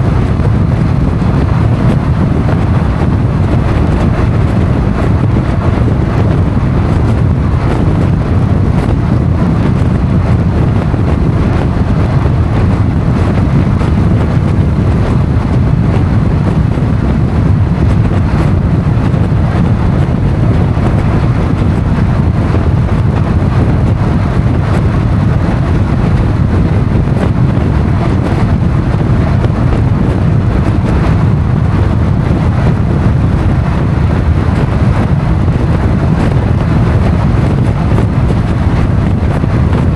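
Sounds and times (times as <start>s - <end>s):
motorcycle running: 0.0s - 39.9s
wind rush buffeting microphone: 0.0s - 39.9s.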